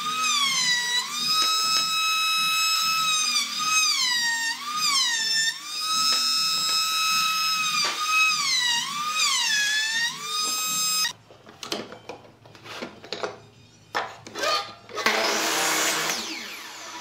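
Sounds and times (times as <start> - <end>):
trim router motor whining: 0.0 - 11.1, 14.3 - 17.0.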